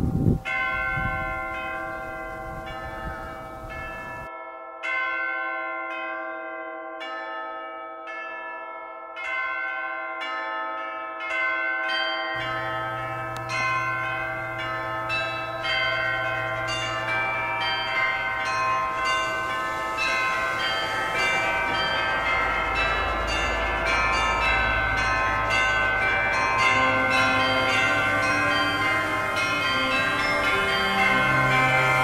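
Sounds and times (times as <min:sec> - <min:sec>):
bells ringing at different pitches: 0:00.0 - 0:32.0.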